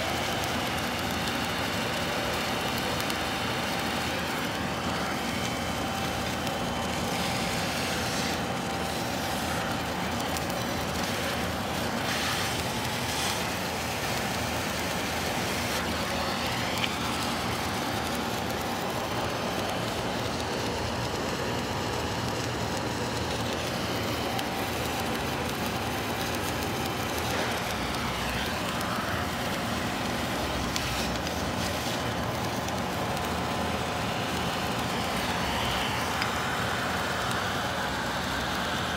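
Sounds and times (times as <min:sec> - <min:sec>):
welding machinery noise: 0:00.0 - 0:38.9.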